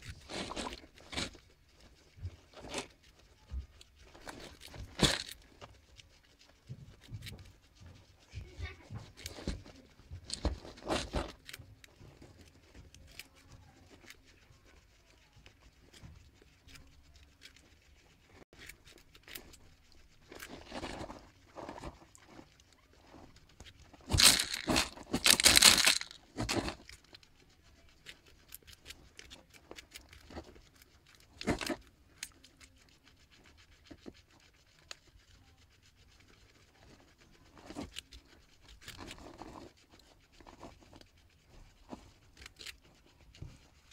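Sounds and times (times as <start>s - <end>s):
guinea pigs chewing carrot: 0.0s - 43.9s
rustling and scraping: 0.0s - 43.9s.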